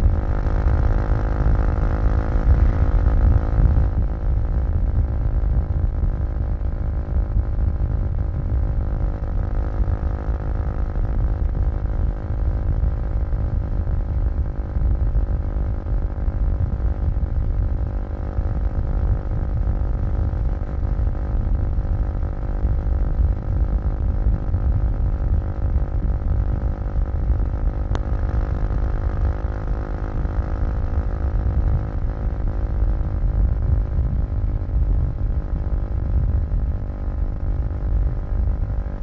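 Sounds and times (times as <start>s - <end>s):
heavy low rumble: 0.0s - 39.0s
motorcycle engine running: 0.0s - 39.0s.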